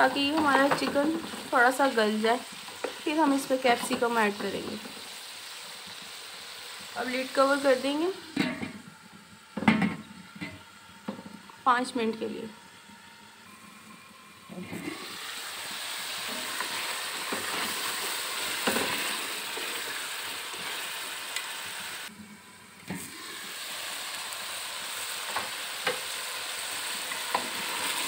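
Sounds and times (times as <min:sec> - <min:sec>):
food sizzling in a pot: 0:00.0 - 0:28.0.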